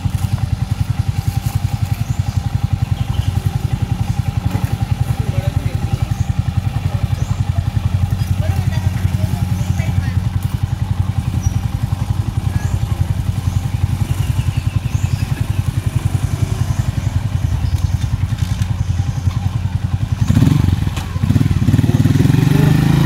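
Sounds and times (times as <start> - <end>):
small engine chugging: 0.0 - 23.0.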